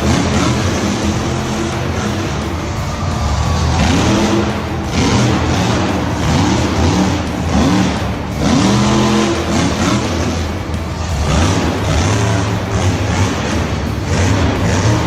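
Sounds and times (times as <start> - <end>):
engine revving: 0.0 - 15.0
steady low hum: 0.0 - 15.0.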